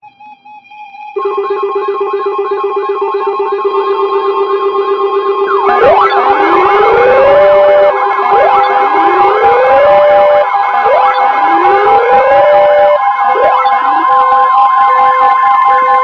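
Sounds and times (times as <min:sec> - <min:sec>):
steady electronic alert tone: 0:01.2 - 0:14.8
sirens wailing: 0:01.2 - 0:16.0.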